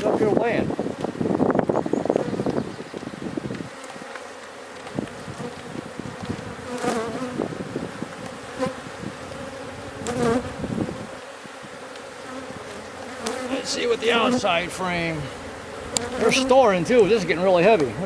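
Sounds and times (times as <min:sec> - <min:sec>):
bees humming: 0:00.0 - 0:18.0
bee flying close past: 0:00.8 - 0:17.3.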